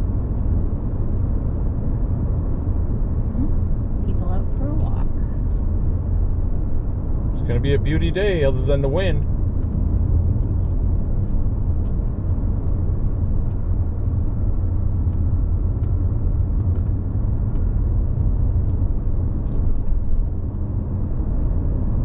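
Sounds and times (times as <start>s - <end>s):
car road rumble inside cabin: 0.0s - 22.0s.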